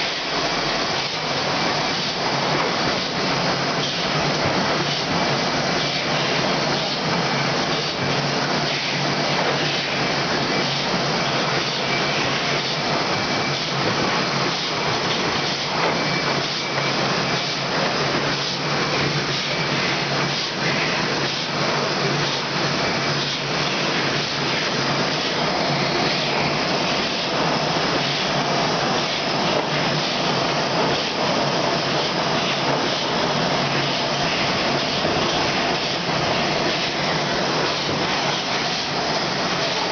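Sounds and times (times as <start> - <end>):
filling machine hissing: 0.0 - 39.9.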